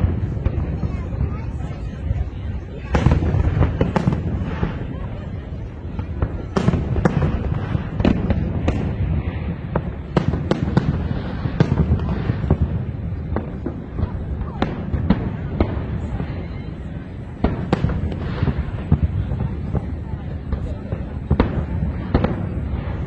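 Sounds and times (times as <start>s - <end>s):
fireworks bursting with sharp bangs: 0.0s - 23.0s
low rumble of fireworks display: 0.0s - 23.0s.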